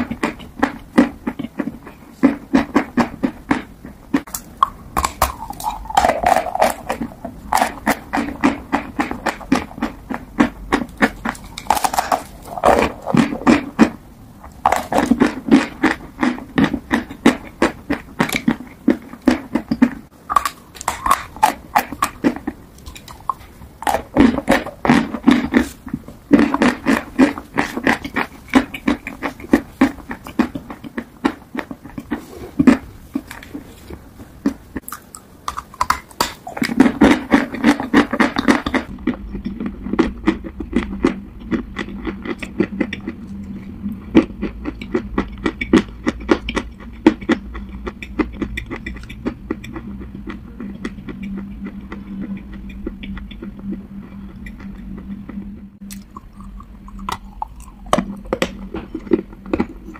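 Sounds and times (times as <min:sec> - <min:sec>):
chewing crunchy chalk: 0:00.0 - 0:59.9
chewing crunchy clay: 0:00.0 - 0:59.9.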